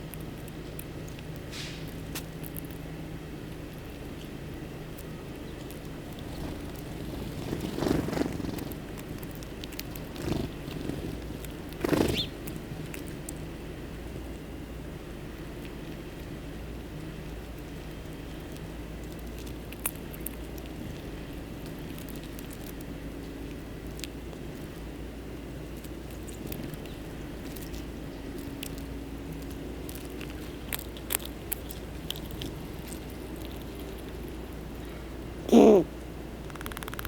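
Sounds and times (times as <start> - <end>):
birds pecking and cracking seed: 0.0 - 35.4, 36.4 - 37.0
steady low hum: 0.0 - 37.0.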